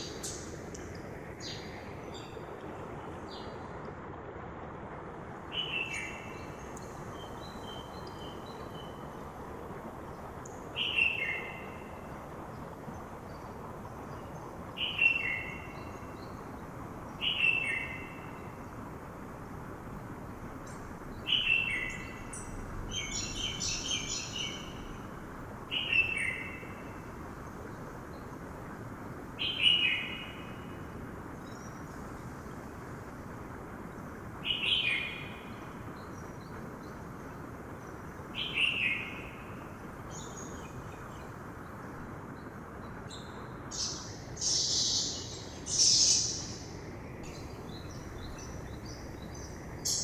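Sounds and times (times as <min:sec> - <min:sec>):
birds twittering: 0:00.0 - 0:03.8, 0:05.5 - 0:18.9, 0:20.6 - 0:28.6, 0:29.4 - 0:50.0.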